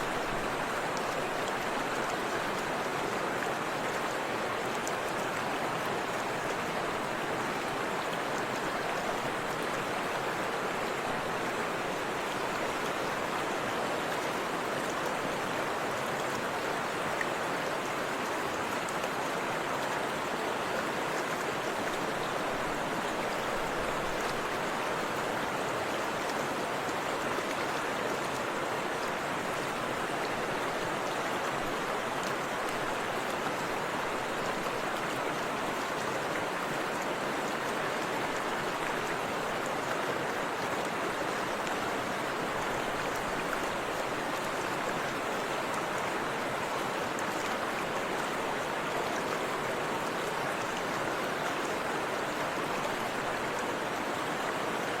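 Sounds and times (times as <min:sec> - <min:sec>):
river and waterfall rushing: 0:00.0 - 0:55.0.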